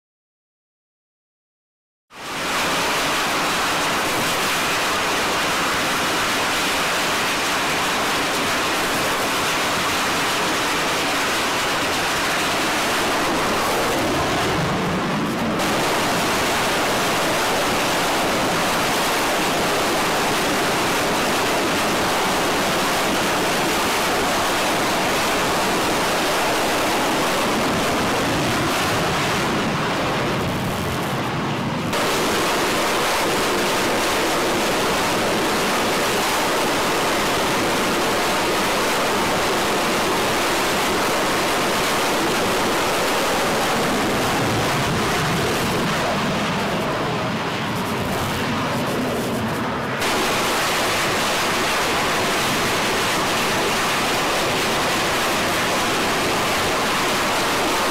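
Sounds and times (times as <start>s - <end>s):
jet engines roaring: 2.1s - 57.9s.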